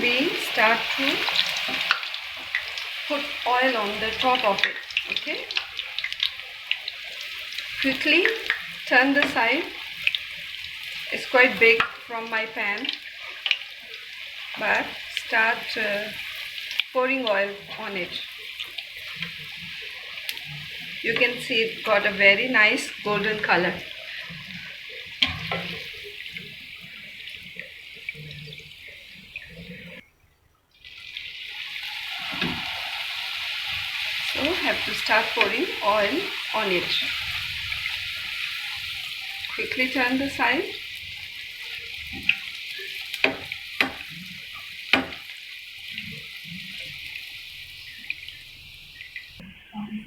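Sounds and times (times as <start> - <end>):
deep-frying in hot oil: 0.0 - 30.0, 30.7 - 49.4.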